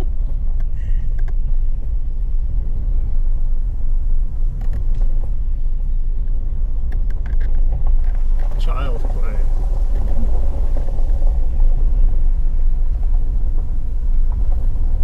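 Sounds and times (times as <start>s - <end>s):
vehicle engine and tyres rumble: 0.0s - 15.0s.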